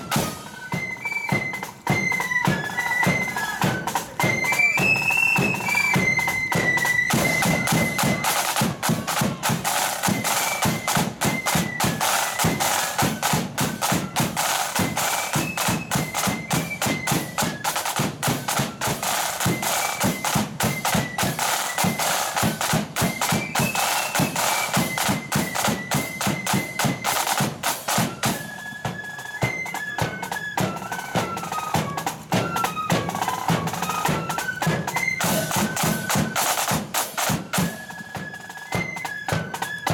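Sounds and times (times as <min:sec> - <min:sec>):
shrill flute melody: 0:00.0 - 0:39.9
fast snare drum beat: 0:01.9 - 0:28.5, 0:30.1 - 0:37.8.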